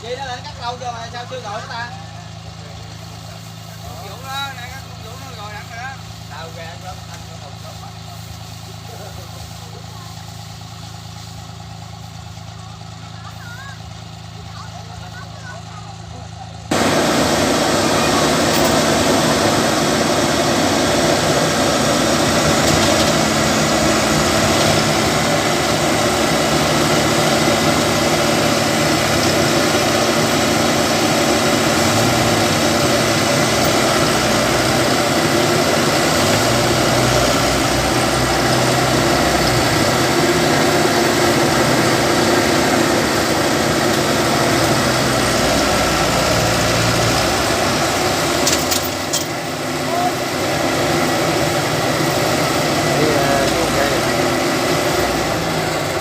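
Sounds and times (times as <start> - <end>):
farm machine engines running: 0.0 - 56.0.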